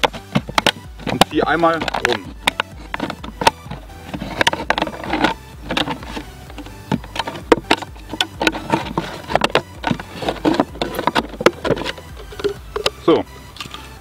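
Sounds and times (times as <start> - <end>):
plastic bottle crackling: 0.0 - 13.8.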